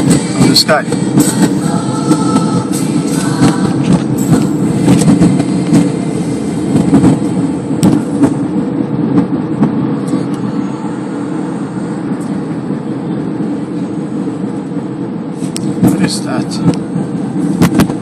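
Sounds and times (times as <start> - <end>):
car driving on a highway: 0.0 - 18.0.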